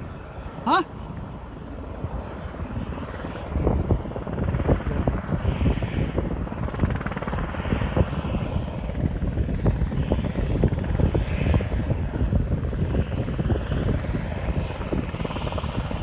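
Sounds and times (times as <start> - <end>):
helicopter rotor chop: 1.9 - 15.8.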